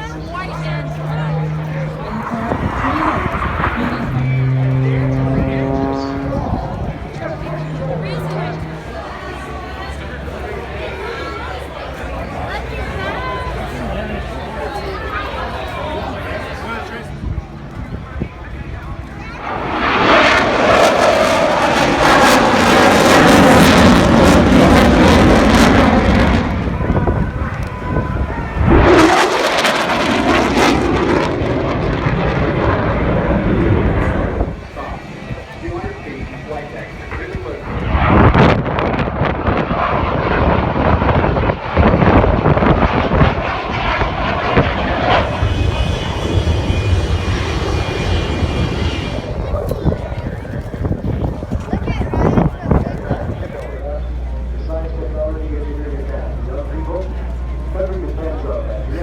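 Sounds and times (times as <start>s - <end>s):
aircraft engine passing low: 0.0s - 59.0s
plane flying past rumbling: 0.0s - 59.0s.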